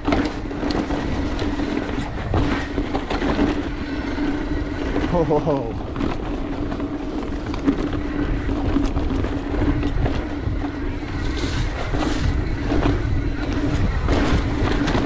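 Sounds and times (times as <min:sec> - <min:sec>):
bike knocks and rattles: 0:00.0 - 0:15.0
wind on microphone: 0:00.0 - 0:15.0.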